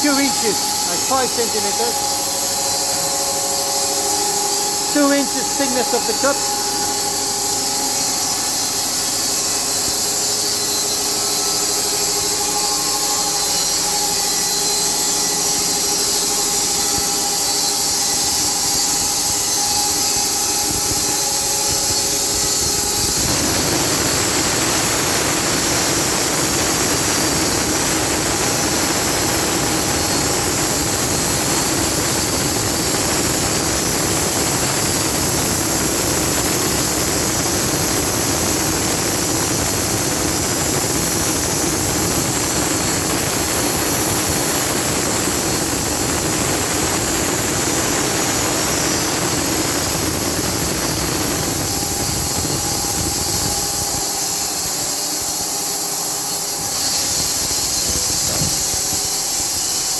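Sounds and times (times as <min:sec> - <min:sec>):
sawmill machine whine: 0:00.0 - 0:59.9.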